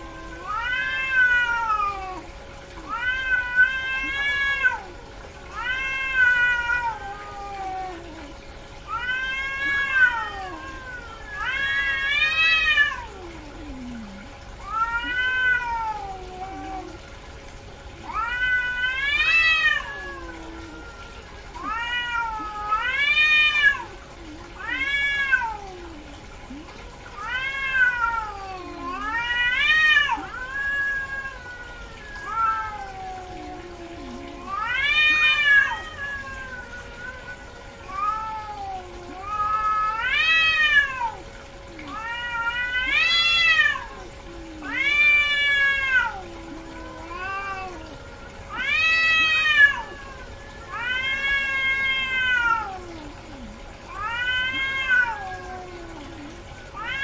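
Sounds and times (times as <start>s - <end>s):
cat meowing: 0.0s - 8.3s, 8.9s - 17.0s, 18.0s - 57.0s.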